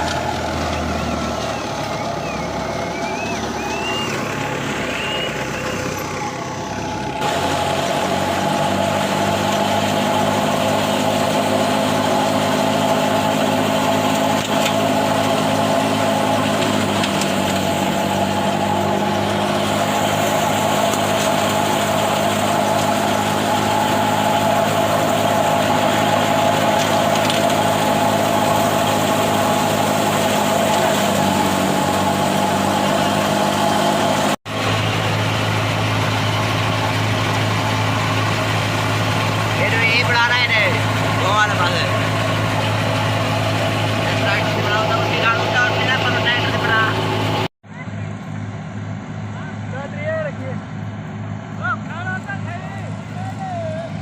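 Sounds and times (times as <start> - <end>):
large engine running: 0.0 - 54.0.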